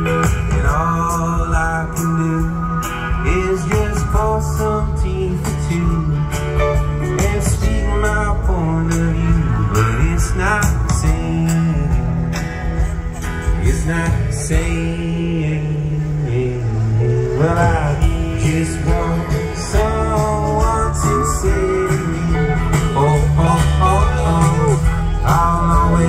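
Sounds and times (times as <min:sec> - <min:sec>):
acoustic guitar playing: 0:00.0 - 0:26.0
man singing: 0:00.0 - 0:26.0.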